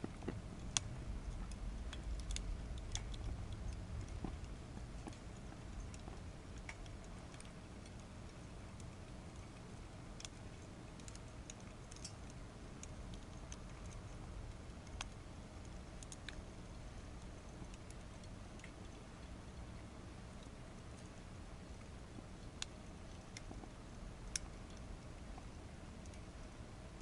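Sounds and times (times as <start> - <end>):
stove low rumble: 0.0 - 27.0
wood fire crackling: 0.0 - 27.0.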